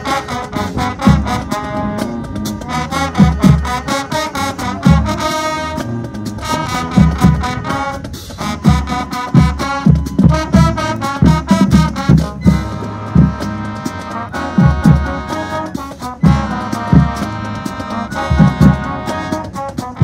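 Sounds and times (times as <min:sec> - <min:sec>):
brass horns holding chords: 0:00.0 - 0:20.0.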